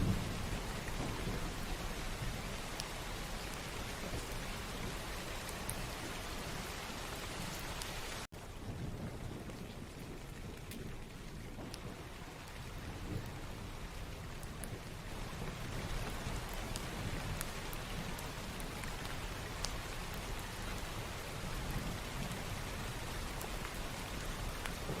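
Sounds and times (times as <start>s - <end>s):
rain falling: 0.0s - 25.0s
raindrops ticking: 0.0s - 25.0s.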